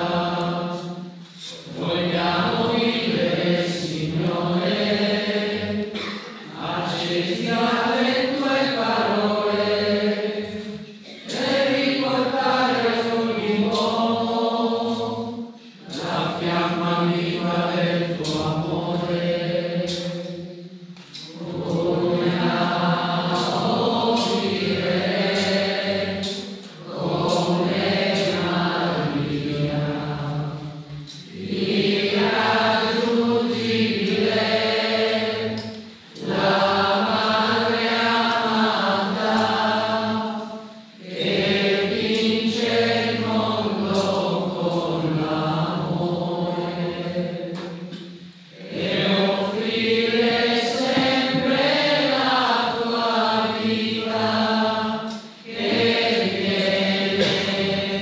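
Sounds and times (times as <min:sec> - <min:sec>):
voices singing a hymn: 0:00.0 - 0:58.0.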